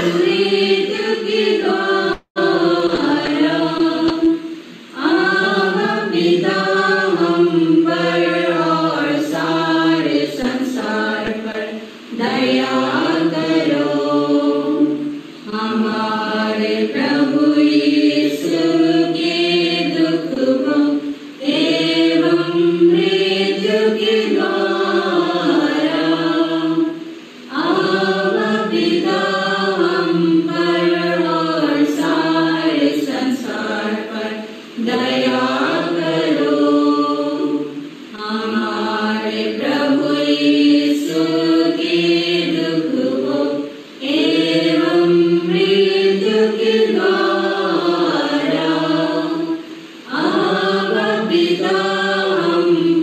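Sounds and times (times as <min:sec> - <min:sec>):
voices singing hymn in unison: 0:00.0 - 0:53.0.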